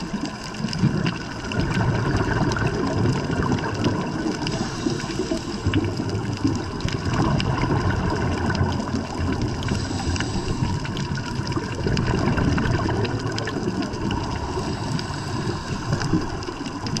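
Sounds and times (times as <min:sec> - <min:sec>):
faint clicks: 0:00.0 - 0:17.0
underwater rushing water noise: 0:00.0 - 0:17.0.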